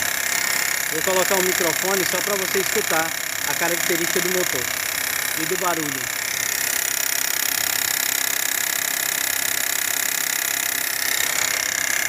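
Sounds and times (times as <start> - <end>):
fuel pump rapid ticking: 0.0 - 12.0.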